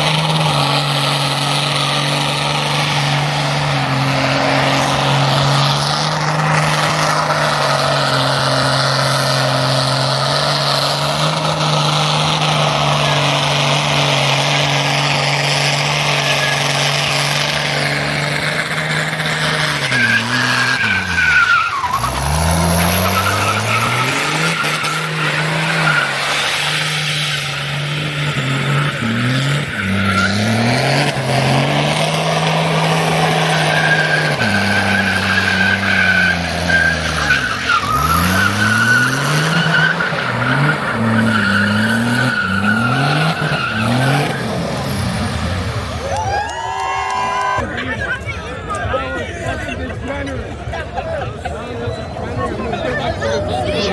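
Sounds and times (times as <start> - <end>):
tyres squealing: 0.0 - 47.7
car engines revving high: 0.0 - 53.9.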